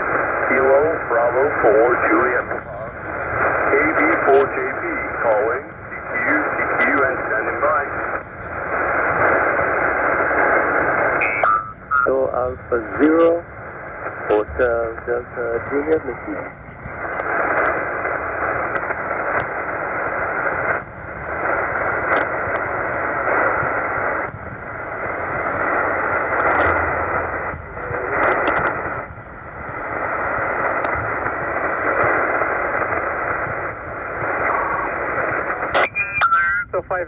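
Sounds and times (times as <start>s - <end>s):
radio band noise hiss: 0.0s - 37.0s.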